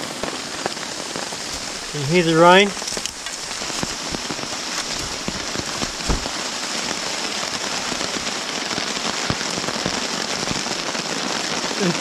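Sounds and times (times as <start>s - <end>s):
heavy rain on a tarp: 0.0s - 12.0s.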